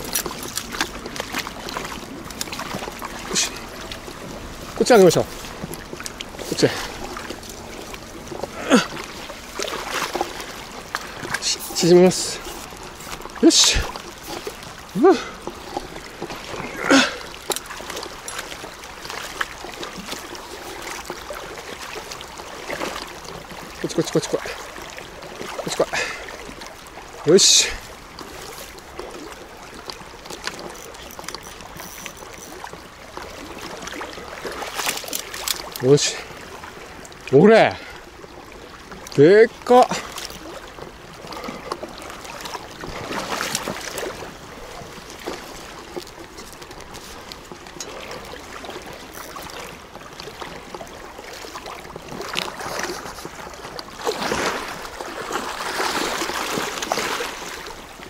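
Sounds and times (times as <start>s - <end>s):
sharp splashes and knocks: 0.0s - 37.1s, 38.6s - 58.0s
river current rushing and burbling: 0.0s - 58.0s.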